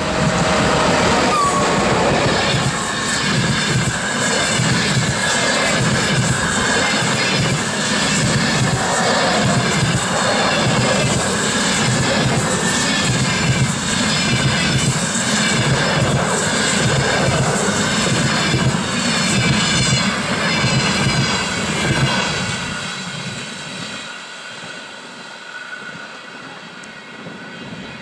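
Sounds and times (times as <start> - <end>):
train rushing past: 0.0 - 28.0
train wheels on rails: 0.0 - 28.0.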